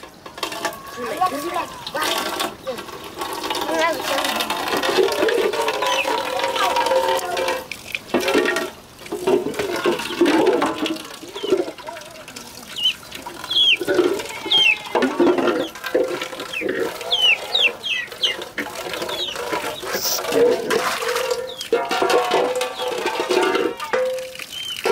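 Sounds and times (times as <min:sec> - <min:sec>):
metal pot being scrubbed: 0:00.0 - 0:24.9
chickens clucking: 0:00.3 - 0:24.9.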